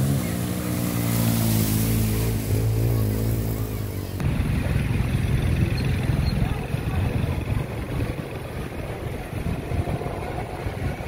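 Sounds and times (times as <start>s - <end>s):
vehicle engine running: 0.0s - 11.0s
rough pulsing rumble: 1.2s - 11.0s.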